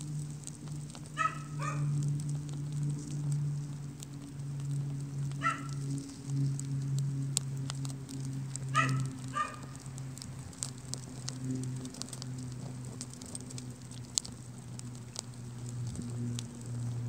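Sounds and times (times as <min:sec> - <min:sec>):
fire crackling and popping: 0:00.0 - 0:17.0
steady low hum: 0:00.0 - 0:17.0.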